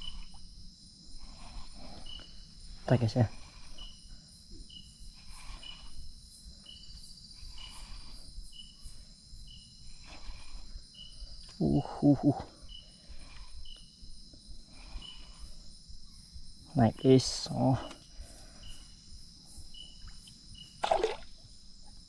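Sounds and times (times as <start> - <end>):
night insects buzzing: 0.0 - 22.0.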